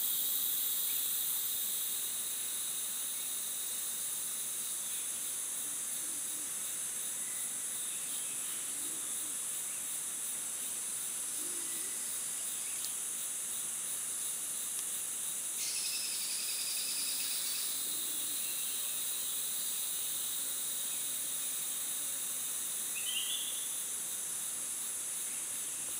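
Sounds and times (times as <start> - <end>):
clear insect call: 0.0 - 25.9
high-pitched insect chorus: 0.0 - 25.9.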